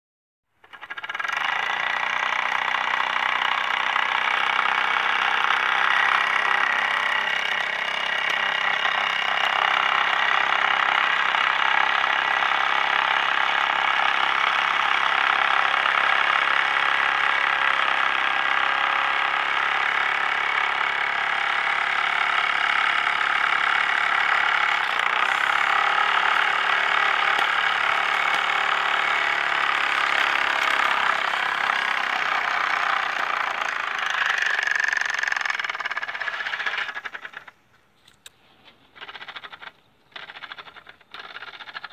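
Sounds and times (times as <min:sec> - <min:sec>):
toy steam engine chuffing: 0:00.6 - 0:41.9.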